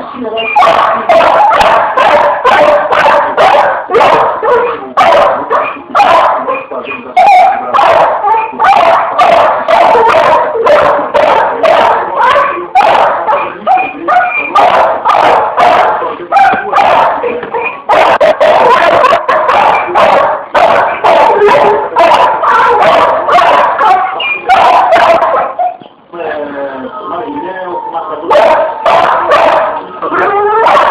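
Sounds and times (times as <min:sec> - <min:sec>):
dog barking and yipping: 0:00.4 - 0:25.8, 0:28.3 - 0:30.9.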